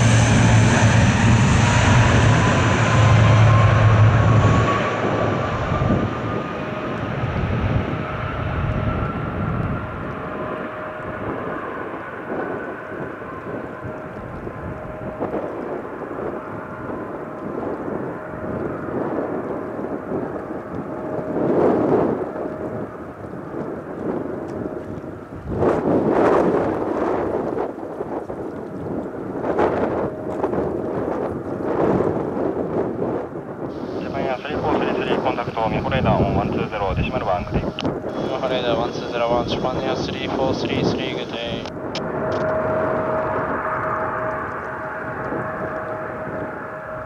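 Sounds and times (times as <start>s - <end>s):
propeller airliner taking off: 0.0s - 47.0s
wind buffeting microphone: 0.0s - 47.0s.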